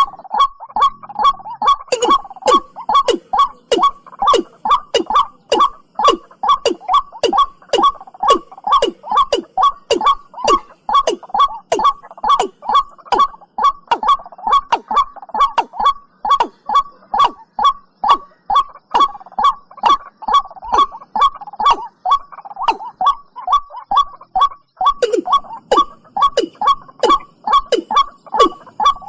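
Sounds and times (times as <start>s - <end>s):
watercock calls: 0.0s - 29.0s.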